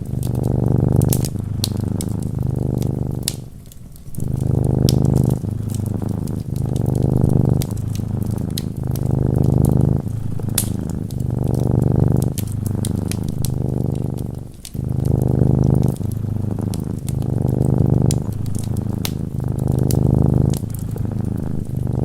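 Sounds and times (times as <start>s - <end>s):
cat purring: 0.0s - 22.0s
fireplace crackling: 0.0s - 22.0s.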